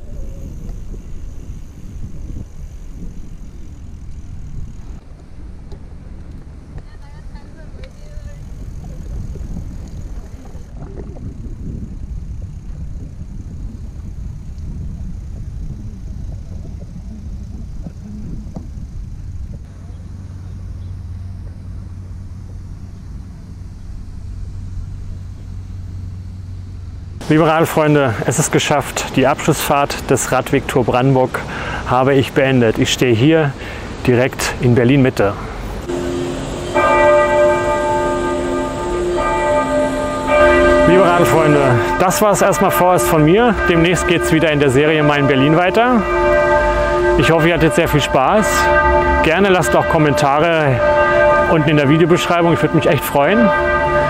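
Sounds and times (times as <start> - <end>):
wind buffeting microphone: 0.0 - 33.0, 35.1 - 54.0
tyre and road noise: 0.0 - 54.0.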